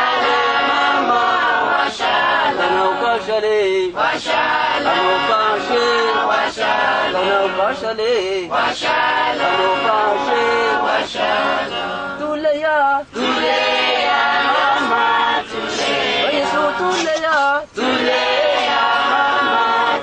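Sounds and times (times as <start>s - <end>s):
choir singing: 0.0s - 7.8s, 8.5s - 12.2s, 13.1s - 20.0s.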